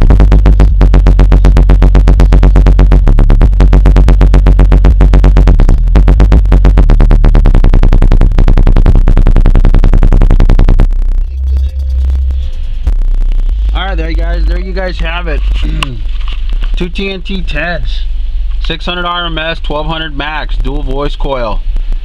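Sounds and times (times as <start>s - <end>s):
electronic music with heavy bass: 0.0s - 18.0s.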